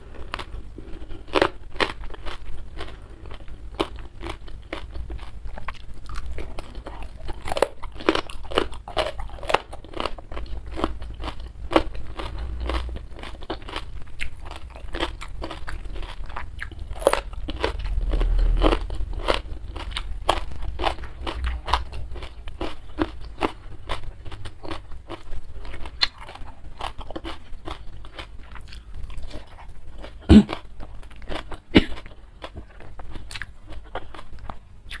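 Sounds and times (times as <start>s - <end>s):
crisp chewing crunches: 0.0s - 35.0s.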